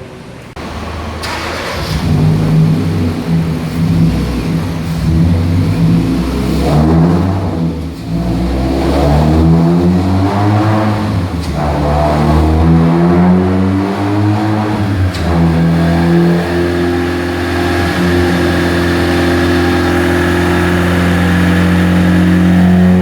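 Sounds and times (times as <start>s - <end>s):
car engine revving hard: 0.6s - 23.0s.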